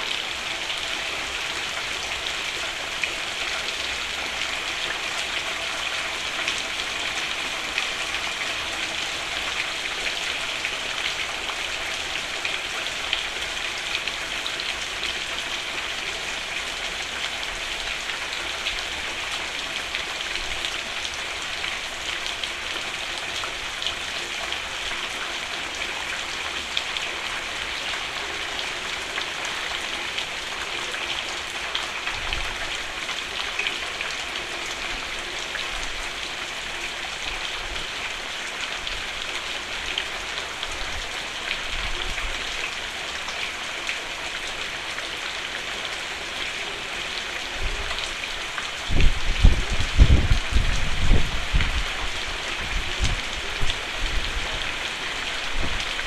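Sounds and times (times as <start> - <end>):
rain drumming on a roof: 0.0 - 56.0.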